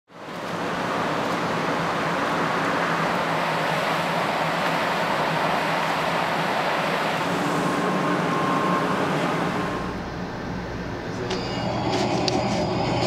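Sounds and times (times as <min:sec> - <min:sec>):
train equipment rushing noise: 0:00.2 - 0:13.0.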